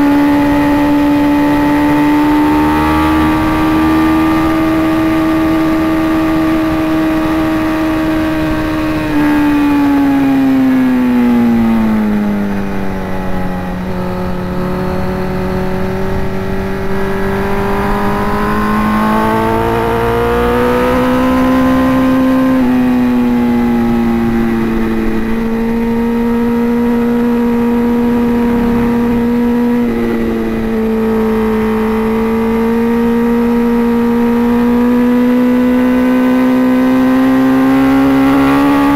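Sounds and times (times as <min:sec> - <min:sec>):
motorcycle engine at high revs: 0:00.0 - 0:38.9
wind rumbling on microphone: 0:00.0 - 0:38.9.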